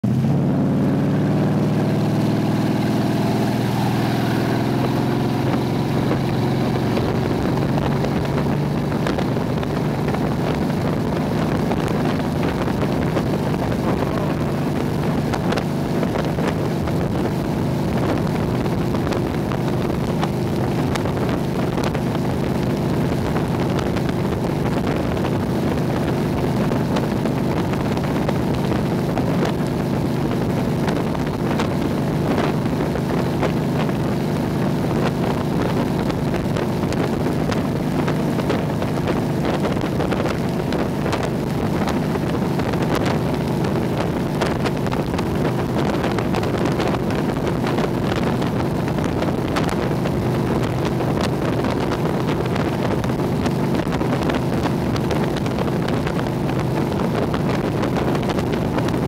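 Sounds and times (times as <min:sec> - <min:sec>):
motorboat engine running: 0:00.0 - 0:59.0
rush of boat wake: 0:00.0 - 0:59.0
wind buffeting microphone: 0:01.8 - 0:59.0.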